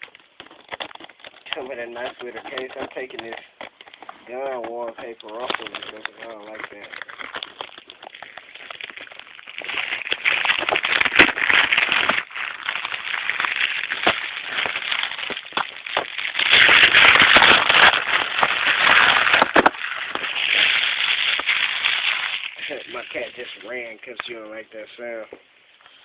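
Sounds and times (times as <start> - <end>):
plastic wrap crackling and tearing: 0.0 - 26.0.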